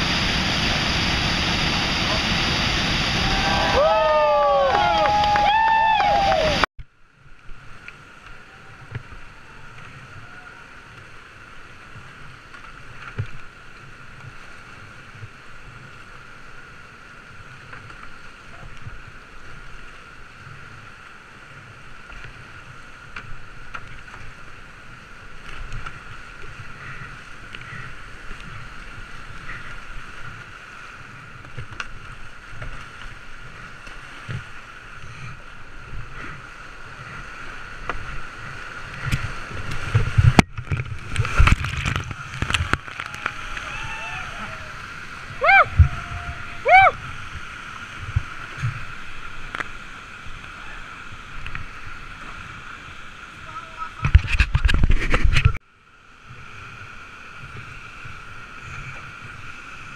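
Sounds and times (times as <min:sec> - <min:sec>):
paddle strokes and splashing: 0:00.0 - 0:59.9
rushing whitewater: 0:00.0 - 0:59.9.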